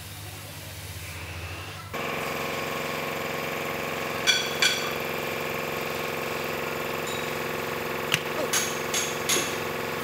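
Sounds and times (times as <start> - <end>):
machine humming: 1.9 - 10.0.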